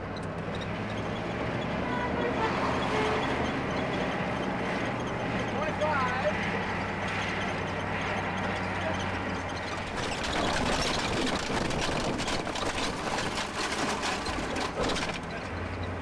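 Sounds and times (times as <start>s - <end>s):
road and wind noise: 0.0s - 16.0s
vehicle engine hum: 0.0s - 16.0s.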